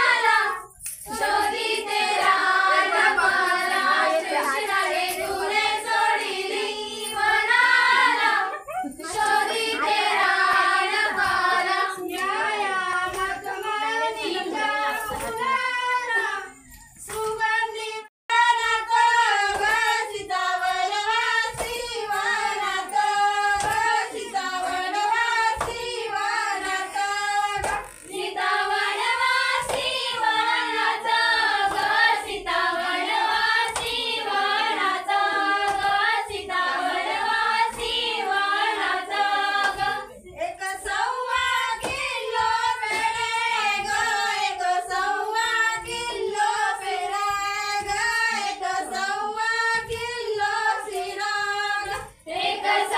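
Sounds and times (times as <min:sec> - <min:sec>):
women and girls singing: 0:00.0 - 0:52.9
hand claps: 0:09.1 - 0:15.6, 0:16.2 - 0:17.5, 0:18.3 - 0:52.9.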